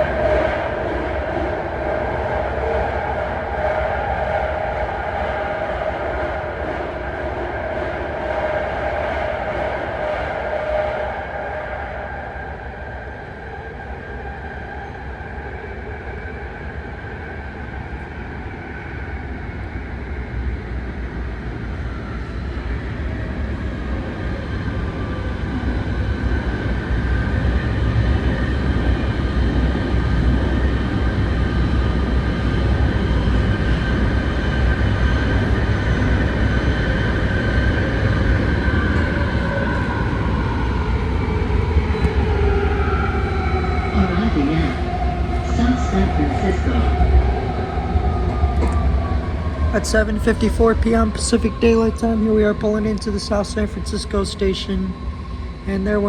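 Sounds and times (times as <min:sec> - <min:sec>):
train rail noise with high whine: 0:00.0 - 0:56.0.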